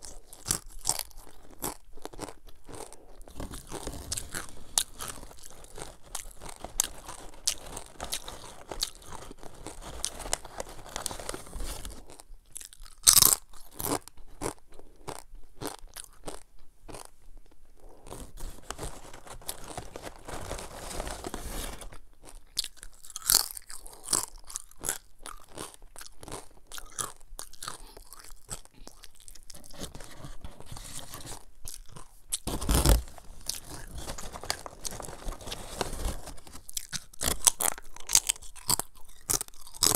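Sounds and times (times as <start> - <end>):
crunchy chewing of chips: 0.0 - 39.9.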